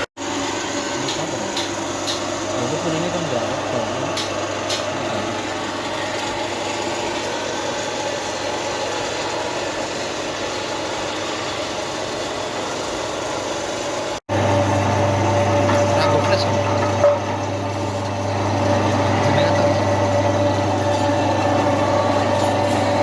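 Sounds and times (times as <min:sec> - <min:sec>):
milling machine whirring: 0:00.0 - 0:23.0.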